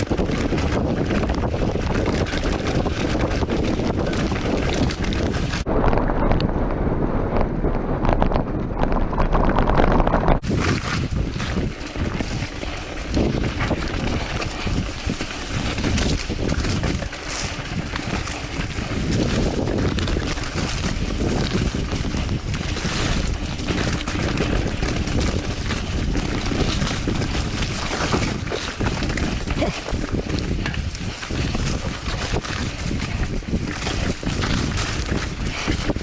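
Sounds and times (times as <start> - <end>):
bike knocks and clatters: 0.0 - 36.0
mountain bike rattling on trail: 0.0 - 36.0
wind buffeting microphone: 0.0 - 36.0.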